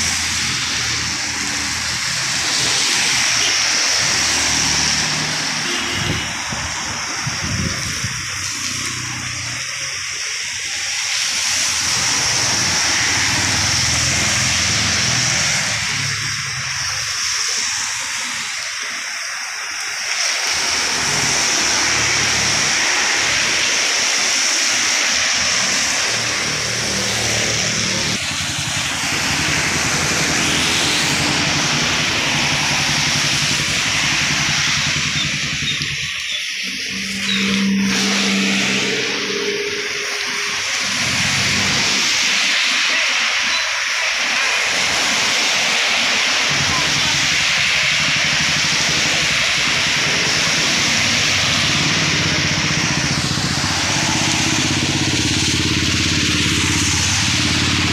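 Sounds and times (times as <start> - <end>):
traffic passing on wet road: 0.0 - 57.9.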